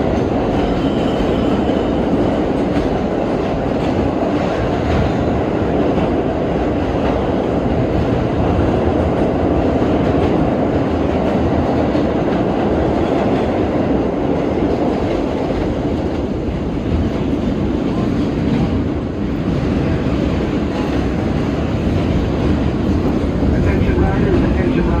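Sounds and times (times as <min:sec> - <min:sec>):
subway train wheels on rails: 0:00.0 - 0:25.0.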